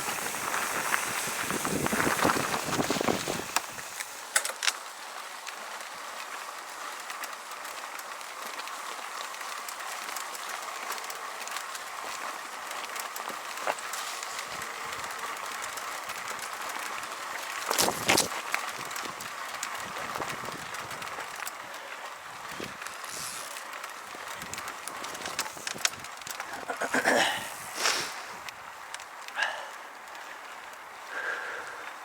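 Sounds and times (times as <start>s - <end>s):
small clicks and rattles: 0.0s - 27.3s, 28.4s - 31.1s
bicycle tyre and wind noise: 0.0s - 32.0s.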